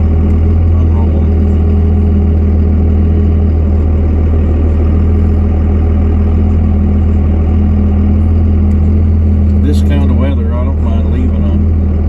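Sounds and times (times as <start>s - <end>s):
farm machine engine running: 0.0s - 12.0s.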